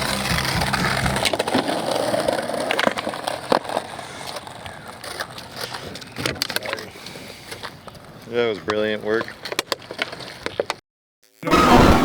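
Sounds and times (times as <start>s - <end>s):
skateboard clacking on ground: 0.0s - 10.8s
skateboard wheels rolling on pavement: 0.0s - 10.8s.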